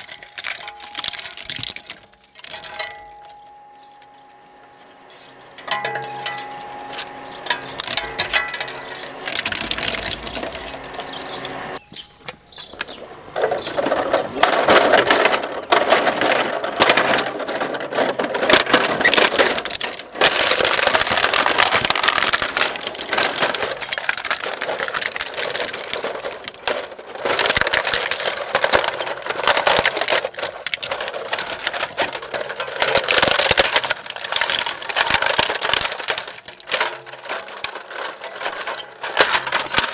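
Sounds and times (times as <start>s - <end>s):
shredder crunching plastic: 0.0s - 39.9s.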